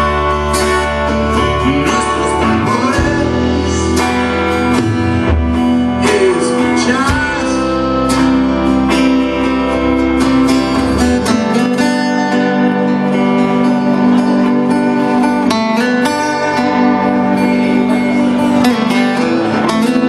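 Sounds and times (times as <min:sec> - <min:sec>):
bass guitar: 0:00.0 - 0:20.0
electric and acoustic guitars: 0:00.0 - 0:20.0
person singing: 0:00.0 - 0:20.0.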